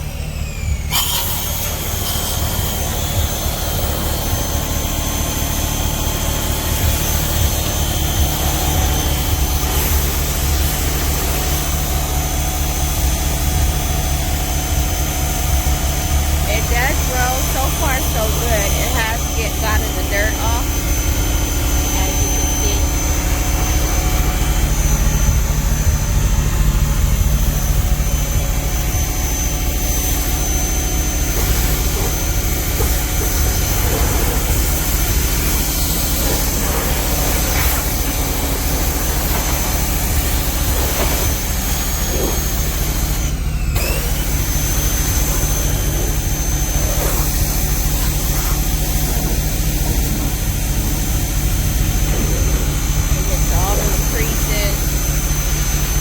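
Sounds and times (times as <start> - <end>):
generator engine running: 0.0 - 56.0
pressure washer motor: 0.0 - 56.0
water spray: 0.9 - 20.9, 29.2 - 43.2, 43.8 - 56.0.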